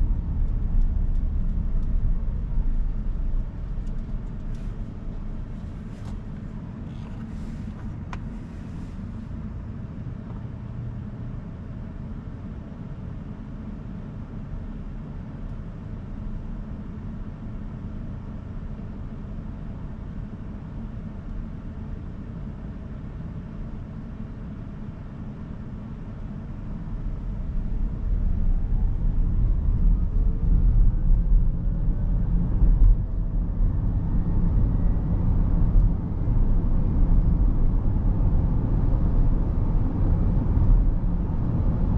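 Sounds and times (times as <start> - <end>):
road and tyre rumble: 0.0 - 41.9.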